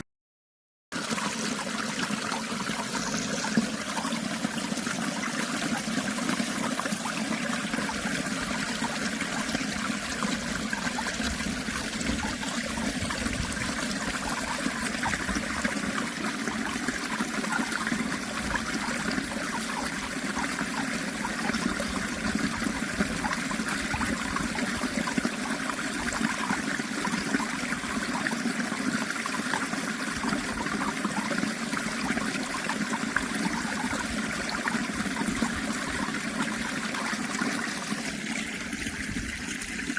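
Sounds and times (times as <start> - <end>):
stream water flowing: 0.9 - 39.9.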